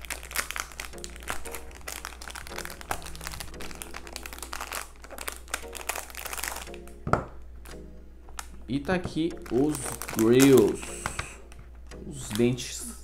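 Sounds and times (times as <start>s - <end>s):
plastic bag crinkling: 0.0s - 6.9s, 7.6s - 11.4s.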